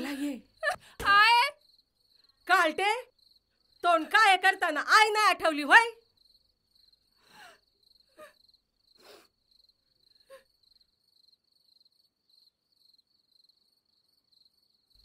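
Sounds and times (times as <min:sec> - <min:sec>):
faint cricket chirping: 0:00.0 - 0:15.0.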